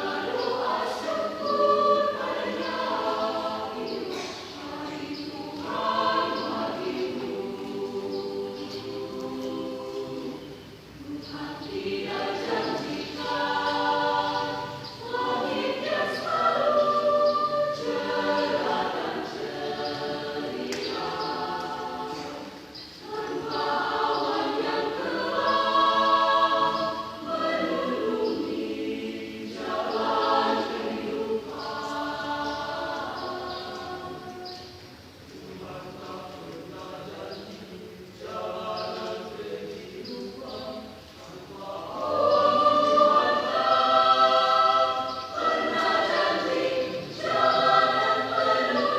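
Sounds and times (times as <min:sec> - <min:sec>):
choir singing a hymn: 0:00.0 - 0:48.9.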